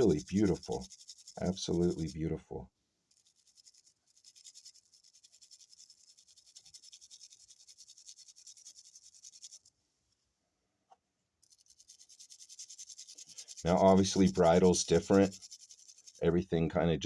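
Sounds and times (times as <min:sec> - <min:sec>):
wire brush scrubbing metal: 0:00.0 - 0:02.2, 0:03.1 - 0:09.8, 0:11.4 - 0:16.4.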